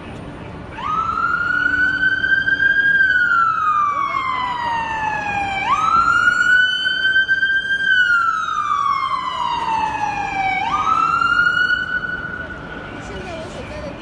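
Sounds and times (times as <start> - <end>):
police siren wailing: 0.7 - 13.0.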